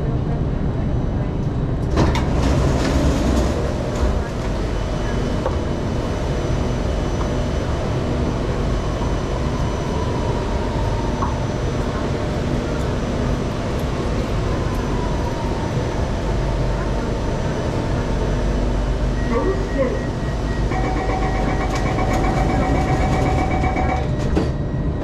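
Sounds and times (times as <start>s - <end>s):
train hum and hiss at platform: 0.0s - 25.0s.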